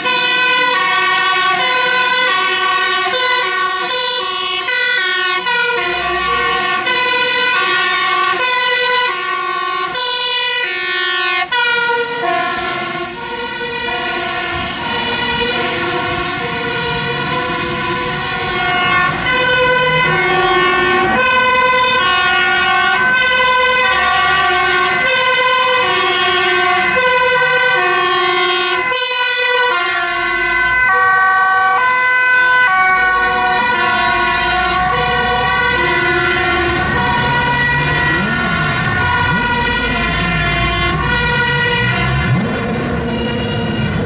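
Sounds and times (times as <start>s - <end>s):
truck engines rumbling: 0.0s - 44.0s
two-tone fire engine sirens: 0.0s - 44.0s.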